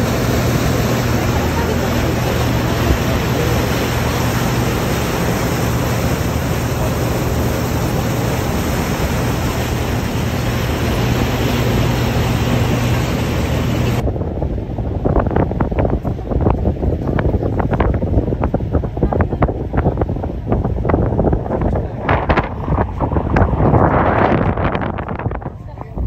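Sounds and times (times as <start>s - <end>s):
boat engine humming: 0.0s - 26.0s
churning wake water: 0.0s - 26.0s
wind on microphone: 0.0s - 26.0s.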